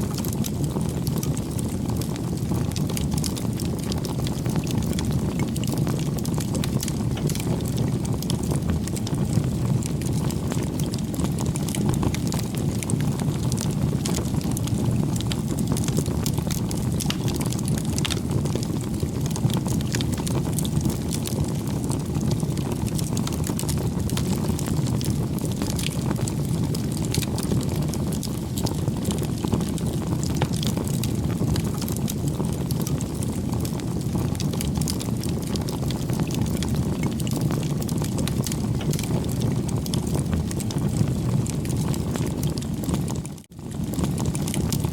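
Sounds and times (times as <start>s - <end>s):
low fire rumble: 0.0s - 44.9s
wood bonfire crackling: 0.0s - 44.9s.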